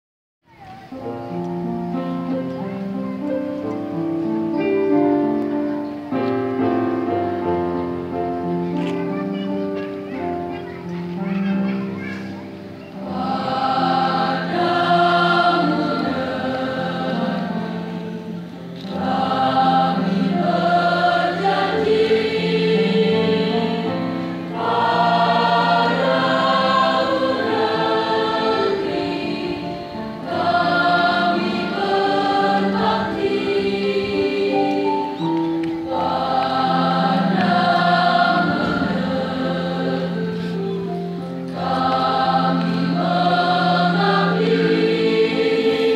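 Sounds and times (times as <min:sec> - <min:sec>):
children's choir singing: 0:00.5 - 0:45.9
electronic keyboard accompaniment: 0:00.9 - 0:45.9.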